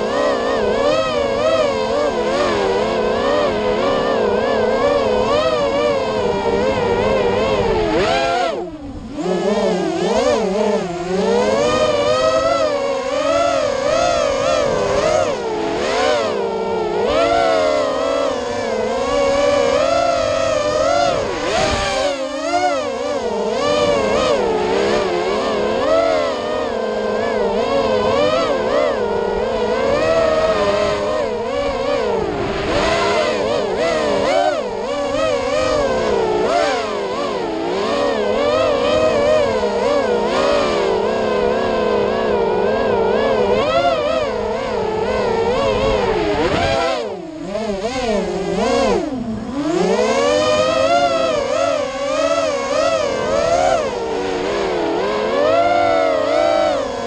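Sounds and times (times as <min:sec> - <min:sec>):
quadcopter motors whining: 0:00.0 - 0:57.0.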